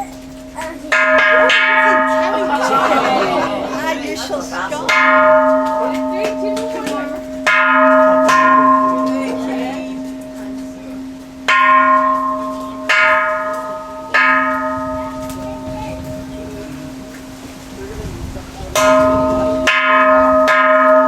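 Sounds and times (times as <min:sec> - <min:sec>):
low bell hum: 0:00.0 - 0:17.4
temple bell ringing: 0:00.0 - 0:17.8, 0:18.7 - 0:21.0.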